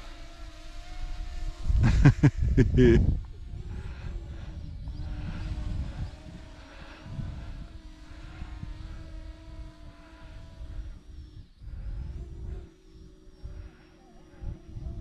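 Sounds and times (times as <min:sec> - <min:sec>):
small propellers humming: 0:00.0 - 0:15.0.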